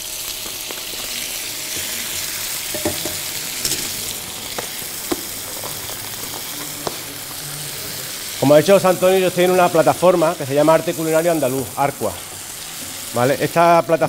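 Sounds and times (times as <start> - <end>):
mushrooms sizzling in frying pan: 0.0 - 14.0.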